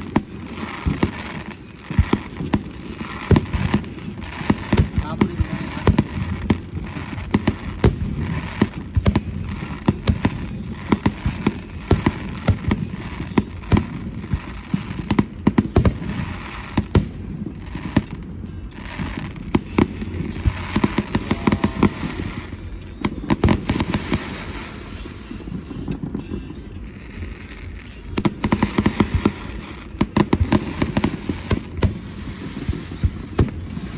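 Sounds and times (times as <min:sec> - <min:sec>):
fireworks bangs: 0:00.0 - 0:33.9
fireworks crackling: 0:00.0 - 0:33.9.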